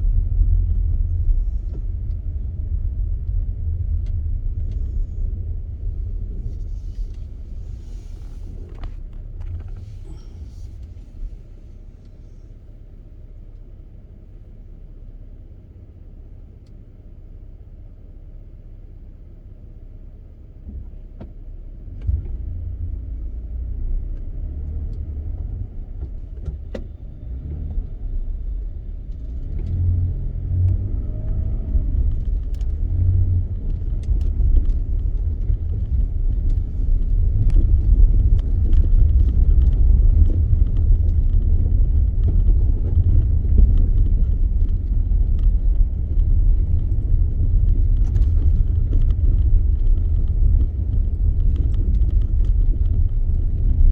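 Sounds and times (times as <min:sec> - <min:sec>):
car driving on snowy road: 0:00.0 - 0:53.9.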